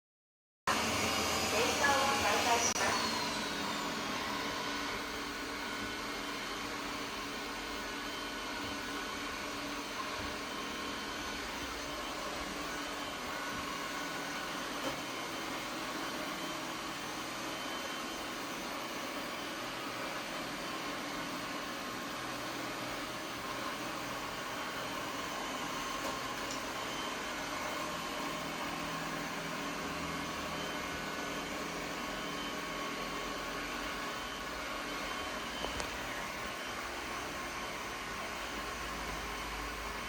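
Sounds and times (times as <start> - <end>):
robot vacuum whirring: 0.7 - 39.4.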